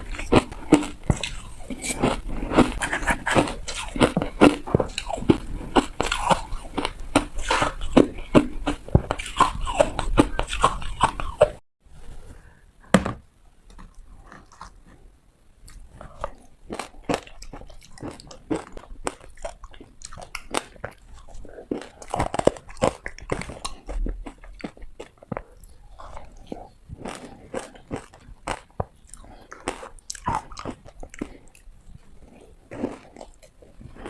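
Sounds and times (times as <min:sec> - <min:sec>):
ice crunching being chewed: 0:00.0 - 0:11.6, 0:15.7 - 0:34.0.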